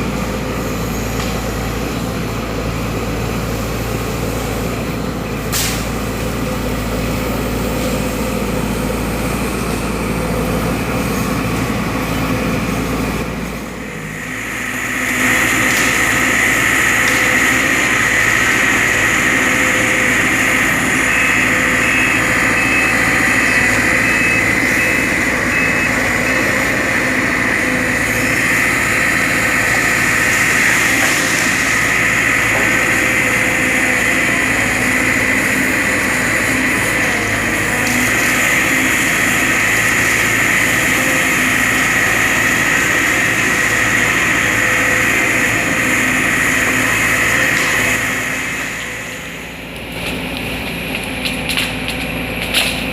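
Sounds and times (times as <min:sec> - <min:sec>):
excavator running: 0:00.0 - 0:52.9
steady high whine: 0:08.0 - 0:52.9.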